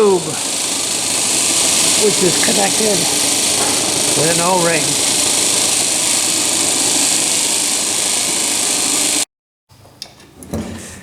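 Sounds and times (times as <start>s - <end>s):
loud mechanical blower noise with hiss: 0.0s - 9.3s.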